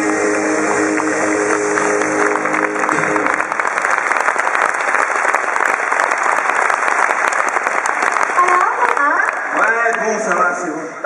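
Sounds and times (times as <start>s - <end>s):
applause: 0.6s - 10.8s.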